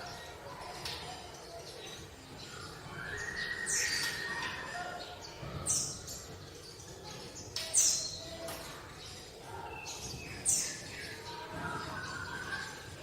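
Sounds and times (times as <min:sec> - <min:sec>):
soft bird twittering: 0:00.0 - 0:13.0.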